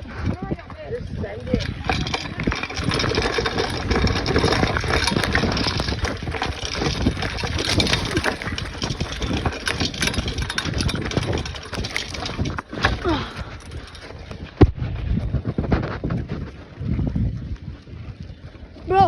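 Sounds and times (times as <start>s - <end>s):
bicycle tyres crunching on dirt: 0.0s - 19.0s
bike rattling: 0.0s - 19.0s.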